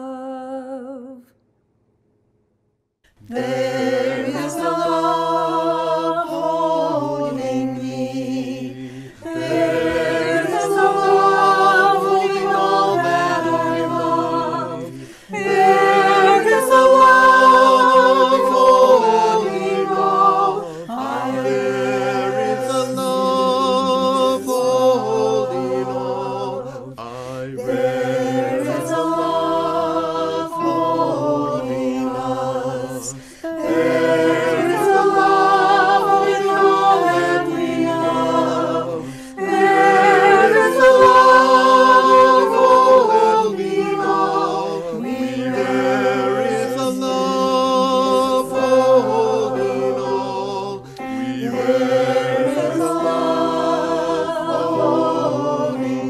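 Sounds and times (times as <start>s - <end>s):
choir singing a hymn: 3.2s - 56.0s.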